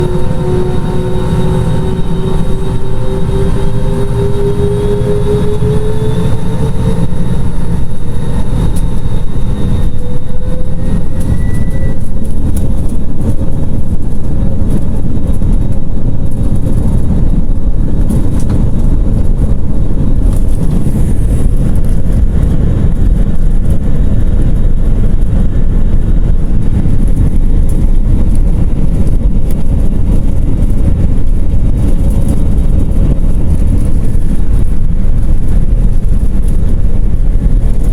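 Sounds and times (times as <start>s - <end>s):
jet engines roaring in cabin: 0.0s - 37.9s.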